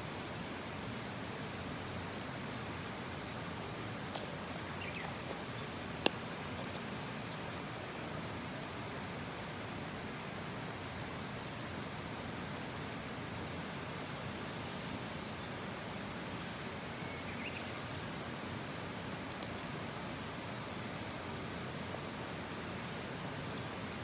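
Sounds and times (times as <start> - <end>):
campfire hissing and popping: 0.0 - 24.0.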